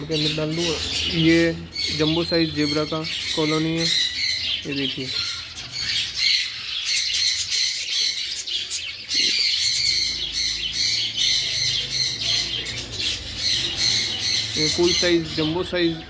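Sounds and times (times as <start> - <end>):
finches chattering: 0.0 - 16.0.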